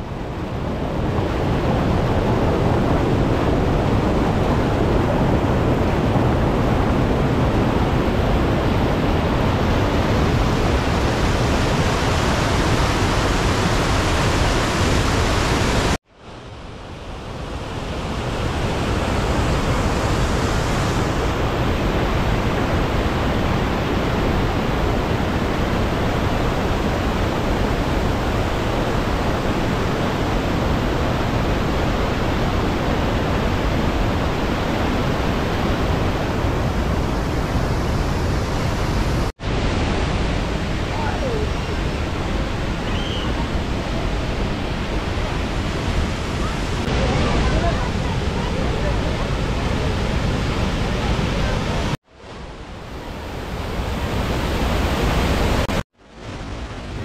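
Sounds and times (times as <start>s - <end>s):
waterfall rushing: 0.2s - 16.0s, 17.0s - 57.0s.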